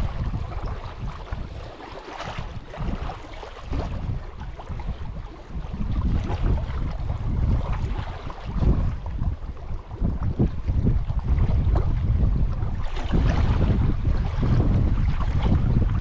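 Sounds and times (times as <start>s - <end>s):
small waves lapping: 0.0s - 16.0s
wind buffeting microphone: 0.0s - 16.0s.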